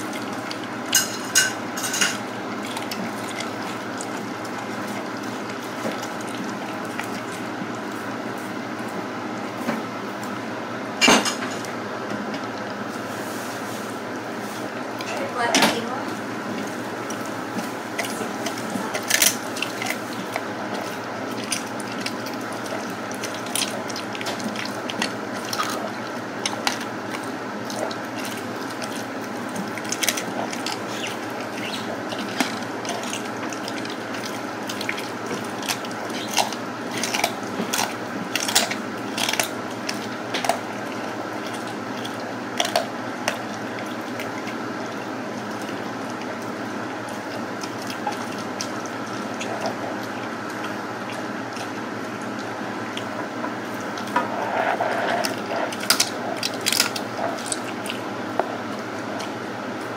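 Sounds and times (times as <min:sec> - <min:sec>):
dog crunching bones: 0:00.0 - 0:08.2, 0:16.4 - 0:59.9.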